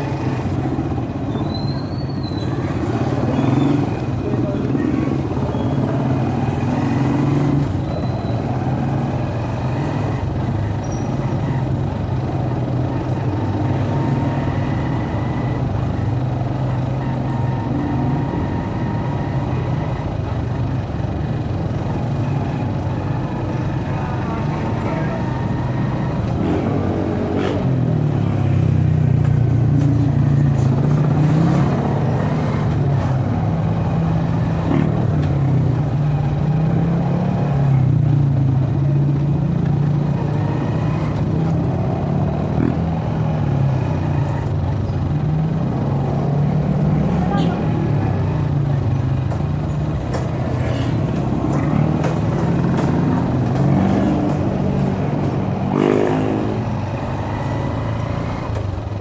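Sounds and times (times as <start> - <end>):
motorcycle engine droning: 0.0 - 59.0.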